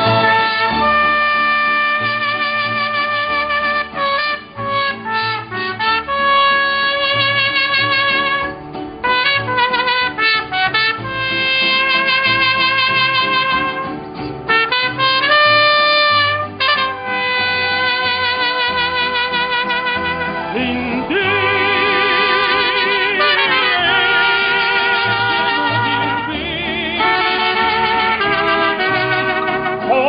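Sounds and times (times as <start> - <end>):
trumpet melody: 0.0 - 30.0.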